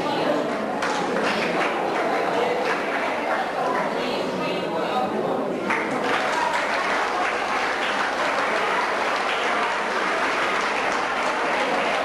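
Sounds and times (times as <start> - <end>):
audience clapping: 0.5 - 3.8, 5.6 - 12.0.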